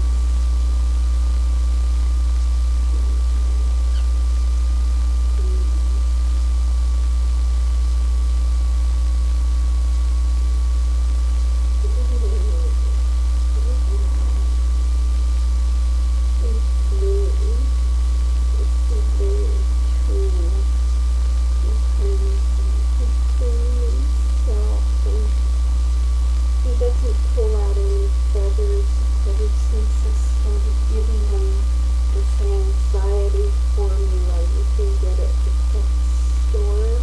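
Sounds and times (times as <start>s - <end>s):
low electrical hum: 0.0s - 37.0s
thin steady whine: 0.0s - 37.0s.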